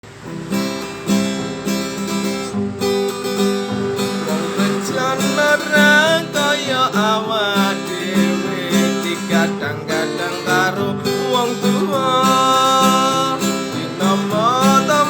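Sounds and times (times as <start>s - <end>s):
strummed acoustic guitar: 0.0s - 15.0s
sliding melody line: 0.8s - 15.0s.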